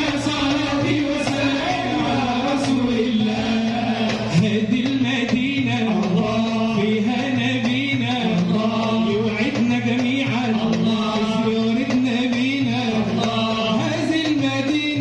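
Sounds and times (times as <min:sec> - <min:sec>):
men chanting into microphones: 0:00.0 - 0:15.0.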